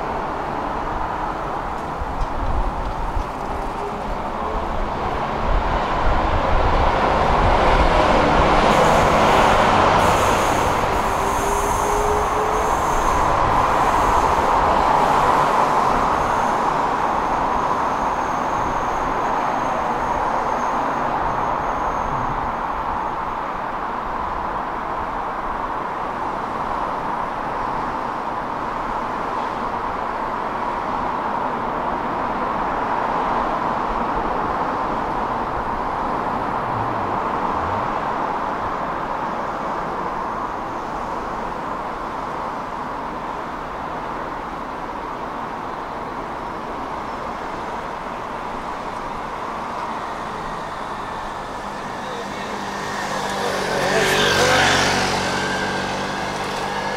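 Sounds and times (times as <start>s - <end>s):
road traffic hiss: 0.0s - 56.9s.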